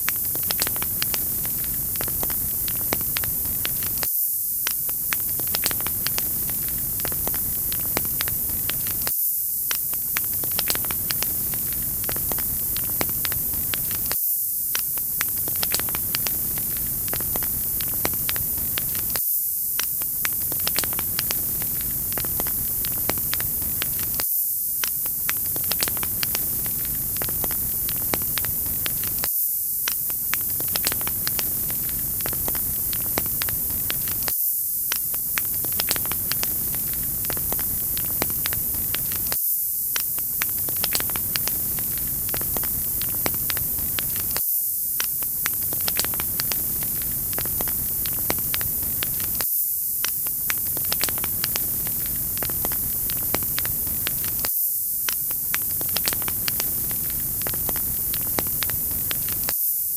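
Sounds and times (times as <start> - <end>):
wood fire crackling: 0.0 - 9.1, 9.7 - 19.2, 19.8 - 24.2, 24.8 - 29.3, 29.9 - 34.3, 35.1 - 44.4, 45.0 - 49.4, 50.0 - 59.5.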